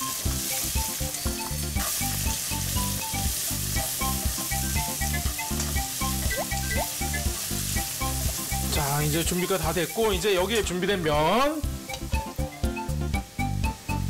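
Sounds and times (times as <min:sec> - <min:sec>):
light rhythmic background music: 0:00.0 - 0:14.0
vegetables sizzling in oil: 0:00.0 - 0:14.0.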